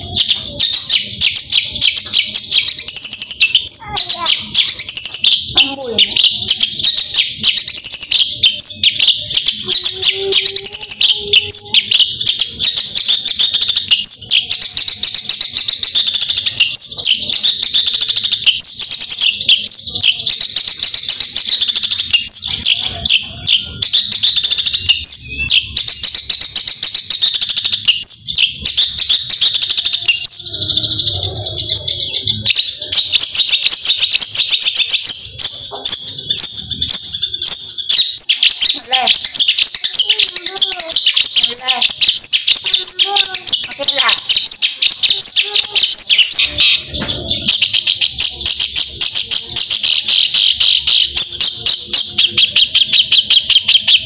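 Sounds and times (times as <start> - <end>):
shrike chattering song: 0.0 - 54.0.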